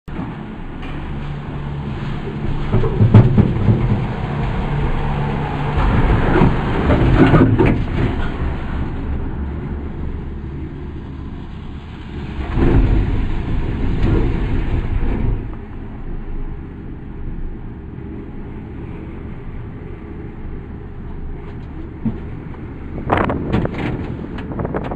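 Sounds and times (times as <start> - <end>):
gondola cabin rumbling and clattering: 0.0 - 24.9
rattling rumble over lift tower: 0.0 - 24.9
steady hum: 0.1 - 24.9.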